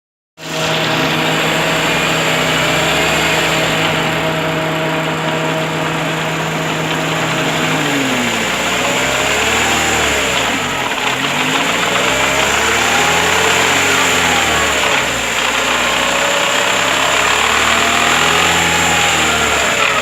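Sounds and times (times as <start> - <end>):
car engine running: 0.4 - 20.0
gearbox knocking: 1.1 - 20.0.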